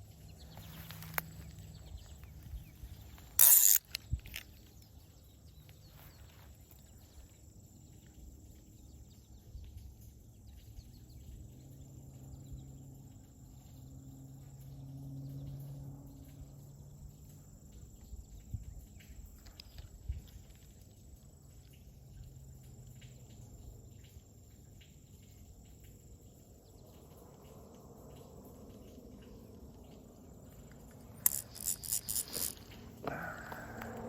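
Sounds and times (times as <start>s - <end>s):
faint low hum: 0.0s - 34.0s
high-pitched insect trill: 0.0s - 34.0s.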